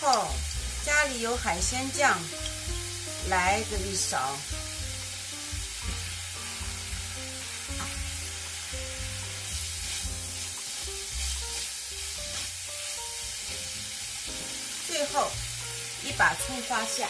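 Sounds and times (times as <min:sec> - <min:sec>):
background music: 0:00.0 - 0:17.0
meat sizzling in a frying pan: 0:00.0 - 0:17.0.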